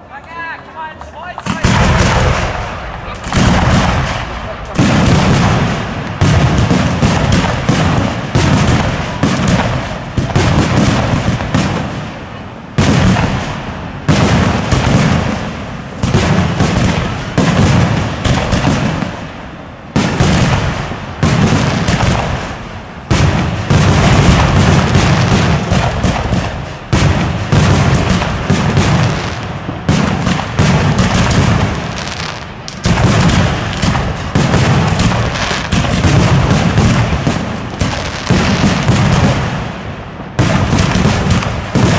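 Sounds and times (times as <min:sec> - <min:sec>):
fireworks bursting: 0:00.0 - 0:41.9
echoes of bangs: 0:01.2 - 0:41.9.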